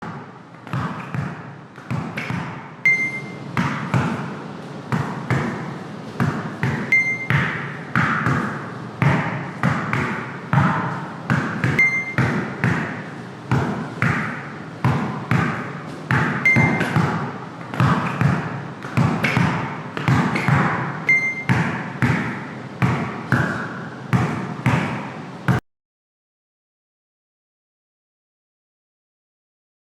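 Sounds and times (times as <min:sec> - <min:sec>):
basketball bouncing on court: 0:00.0 - 0:04.3, 0:04.9 - 0:25.6.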